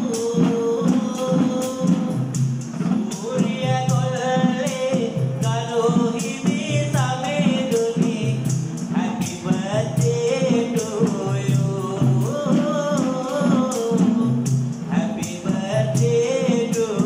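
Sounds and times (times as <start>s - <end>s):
hand frame drum beat: 0.0s - 17.0s
jingling hand percussion: 0.0s - 17.0s.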